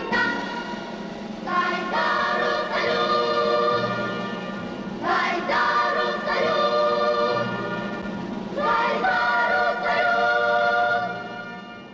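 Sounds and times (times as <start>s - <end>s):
choir singing: 0.0s - 11.8s.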